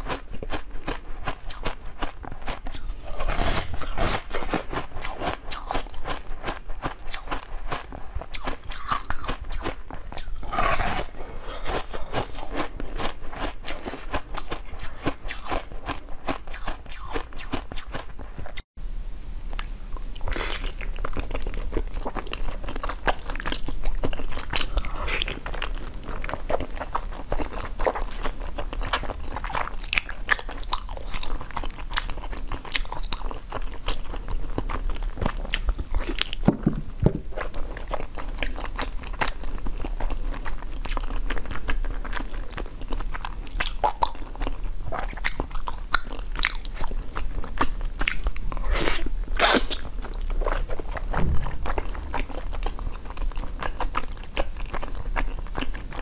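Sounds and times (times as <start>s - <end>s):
crunchy chewing of frozen jelly: 0.0s - 18.6s, 19.5s - 56.0s.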